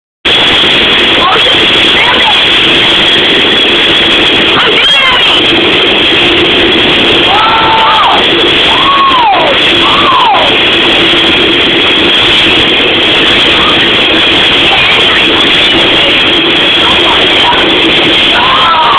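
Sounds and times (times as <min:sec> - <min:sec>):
train passing with rumble: 0:00.3 - 0:18.9.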